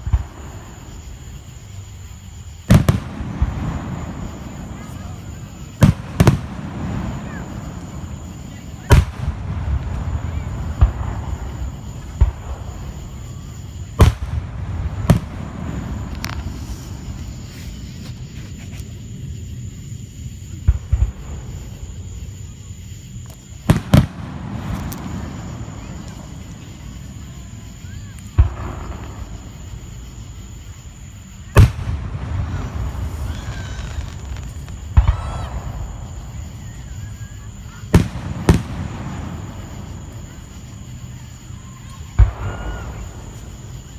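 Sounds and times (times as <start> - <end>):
fireworks booming: 0.0 - 43.9
fireworks crackle: 0.0 - 43.9.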